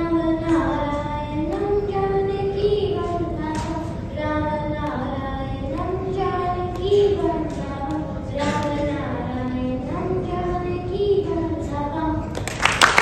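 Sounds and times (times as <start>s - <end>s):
high voices singing slow melody: 0.0s - 12.4s.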